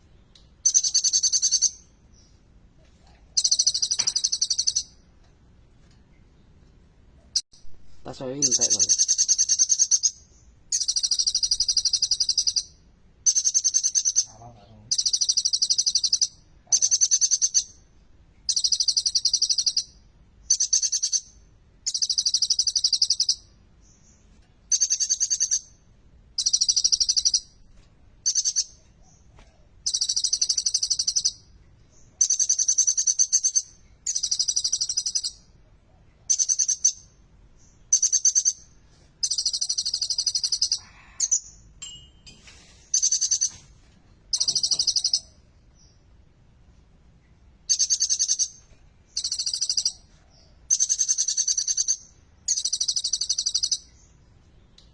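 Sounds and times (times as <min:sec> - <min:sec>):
bird singing trilled phrases: 0:00.3 - 0:02.4, 0:03.4 - 0:05.0, 0:07.4 - 0:17.8, 0:18.5 - 0:25.8, 0:26.4 - 0:27.6, 0:28.2 - 0:35.6, 0:36.3 - 0:43.6, 0:44.3 - 0:46.0, 0:47.6 - 0:54.8.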